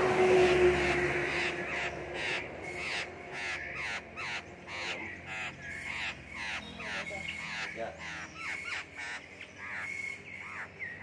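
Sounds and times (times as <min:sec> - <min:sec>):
bird singing whistled notes: 0:00.4 - 0:11.0.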